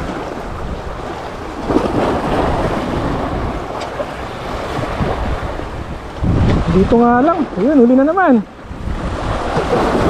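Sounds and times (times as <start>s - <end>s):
sea waves washing in: 0.0s - 10.0s
wind buffeting microphone: 0.0s - 10.0s.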